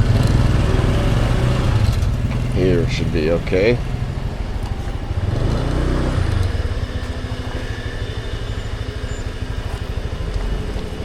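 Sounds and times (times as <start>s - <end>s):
motor scooter engine running: 0.0s - 11.0s.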